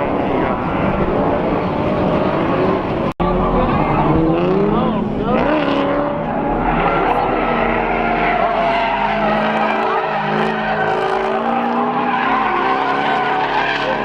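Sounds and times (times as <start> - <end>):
car engines revving: 0.0 - 14.0
tyres skidding on pavement: 0.1 - 14.0.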